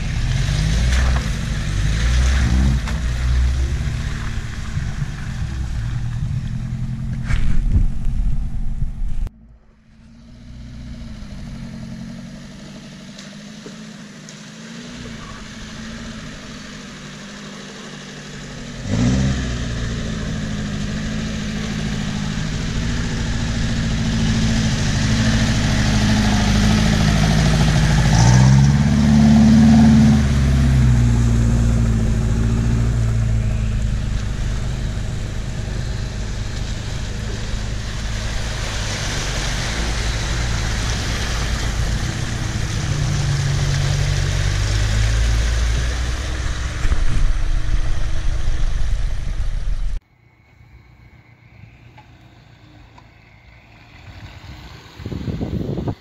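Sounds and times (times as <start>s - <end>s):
off-road vehicle engine revving: 0.0s - 9.2s, 9.8s - 50.0s
water splashing around wheels: 0.0s - 9.3s, 9.9s - 50.0s, 52.0s - 56.0s.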